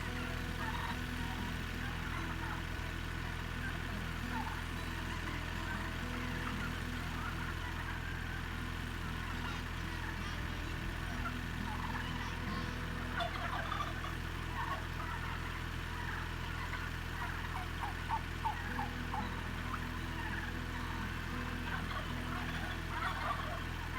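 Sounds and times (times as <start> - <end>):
tractor engine droning: 0.0 - 23.9
turkeys calling: 0.0 - 23.9.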